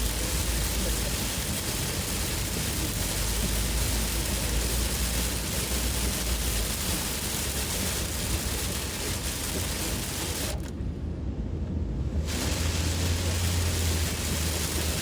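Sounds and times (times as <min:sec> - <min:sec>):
heavy rain hissing on car: 0:00.0 - 0:10.7, 0:12.1 - 0:15.0
road rumble: 0:00.0 - 0:15.0.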